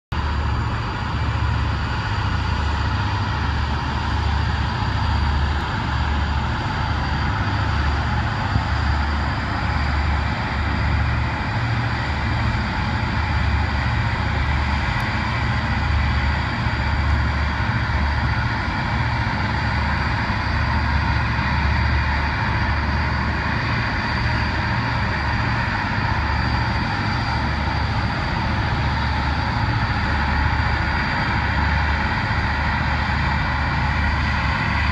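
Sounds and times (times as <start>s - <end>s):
diesel engines throbbing: 0.2s - 34.9s.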